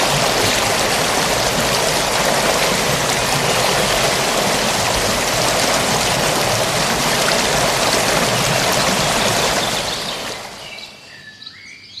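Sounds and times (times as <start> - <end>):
stream flowing: 0.0 - 11.1.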